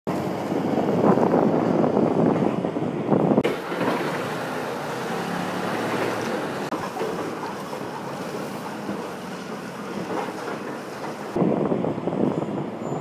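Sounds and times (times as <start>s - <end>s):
machinery engine rumble: 0.1s - 13.0s
wind buffeting microphone: 0.1s - 13.0s.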